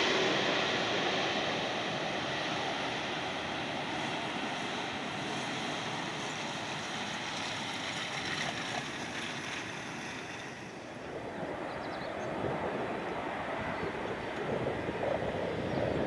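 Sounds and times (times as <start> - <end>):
jet engine on final approach: 0.0 - 16.0
jet engines after touchdown: 0.0 - 16.0.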